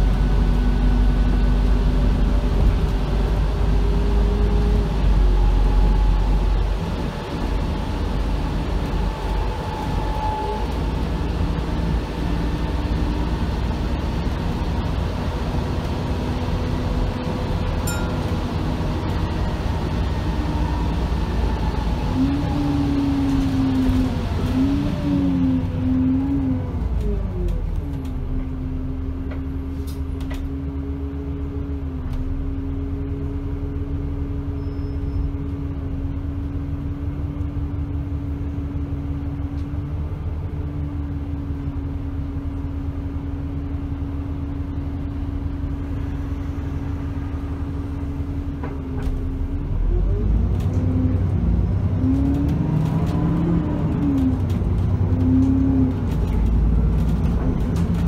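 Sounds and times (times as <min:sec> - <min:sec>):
bus engine idling and accelerating: 0:00.0 - 0:58.0.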